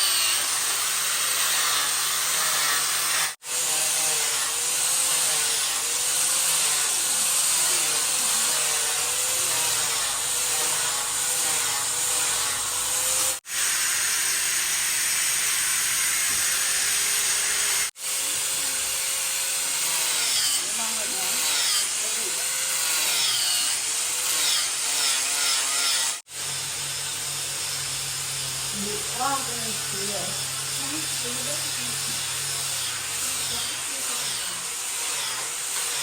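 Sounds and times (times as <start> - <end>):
power tool cutting wood: 0.0 - 36.0.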